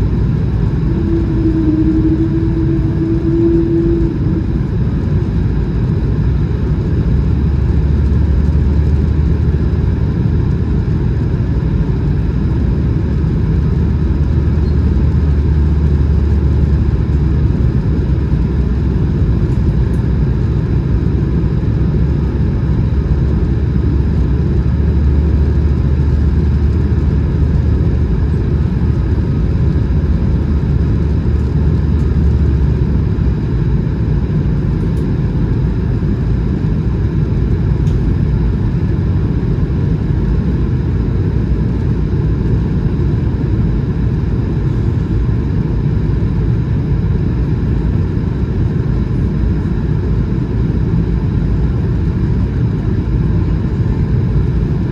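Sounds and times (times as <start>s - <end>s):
deep hum: 0.0s - 46.8s
airplane cabin rumble: 0.0s - 54.9s.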